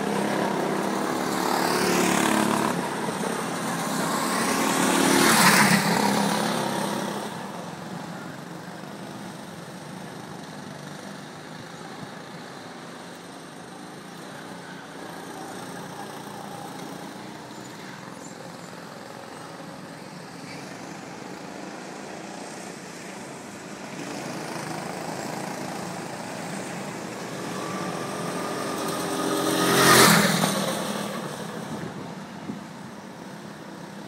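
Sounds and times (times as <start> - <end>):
go-kart engine passing: 0.0 - 34.0.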